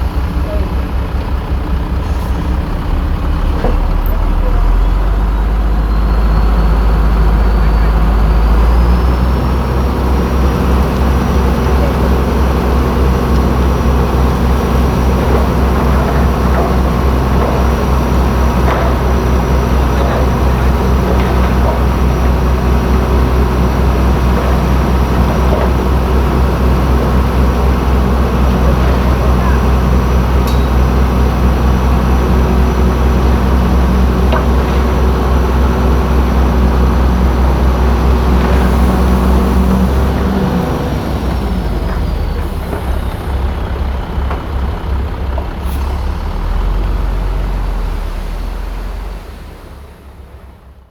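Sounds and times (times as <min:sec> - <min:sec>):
heavy machine diesel engine droning: 0:00.0 - 0:50.9.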